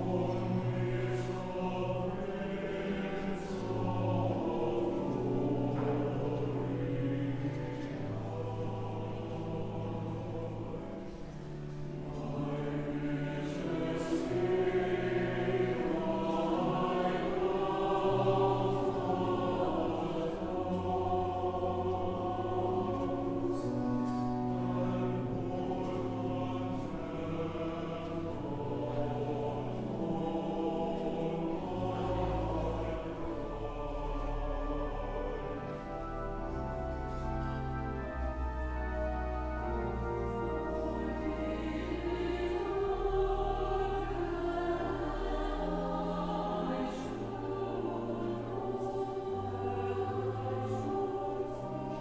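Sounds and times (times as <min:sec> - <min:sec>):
choir singing held chords: 0:00.0 - 0:52.0.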